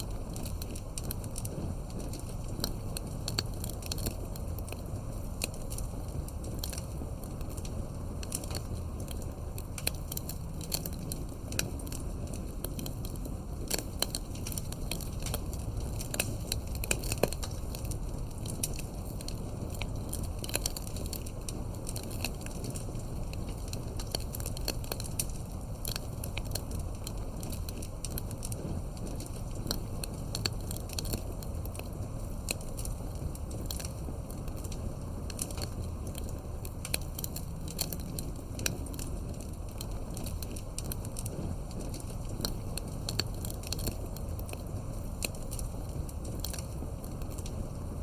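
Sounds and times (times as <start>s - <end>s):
campfire crackling and popping: 0.0s - 48.0s
low rumble of flames: 0.0s - 48.0s.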